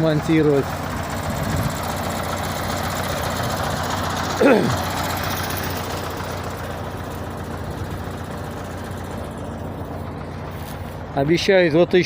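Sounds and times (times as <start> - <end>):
diesel engine idling with knock: 0.0 - 12.0.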